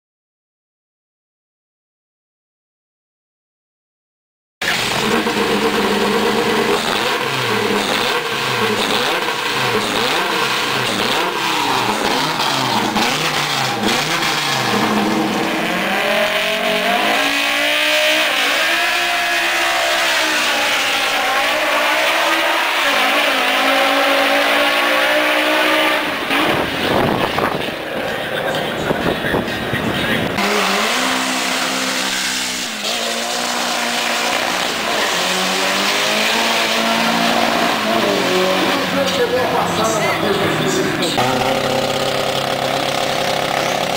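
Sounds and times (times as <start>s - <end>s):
car accelerating hard: 4.6s - 43.9s
car engine revving: 4.6s - 43.9s.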